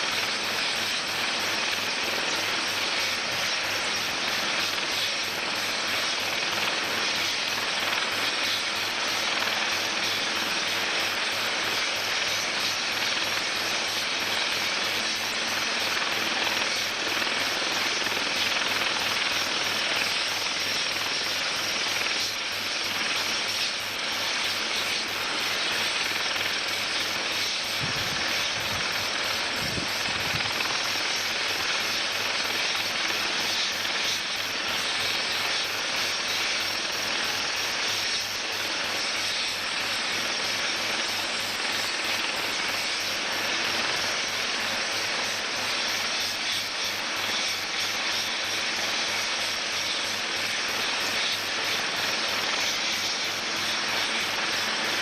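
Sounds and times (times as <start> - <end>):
helicopter turbine and rotor: 0.0 - 55.0.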